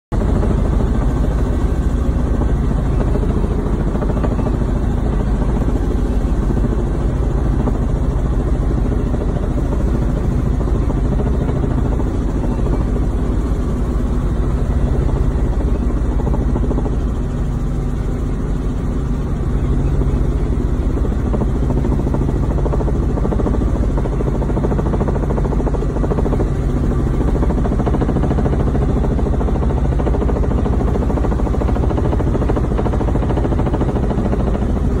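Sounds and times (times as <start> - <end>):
helicopter engine and rotors drone: 0.1 - 35.0.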